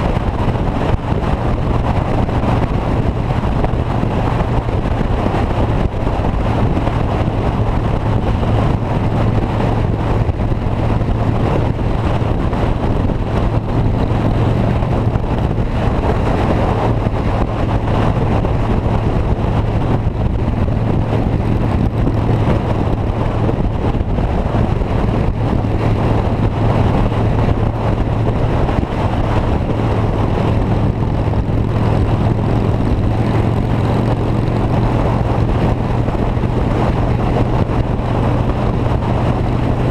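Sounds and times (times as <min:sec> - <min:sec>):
moving vehicle drone: 0:00.0 - 0:39.9.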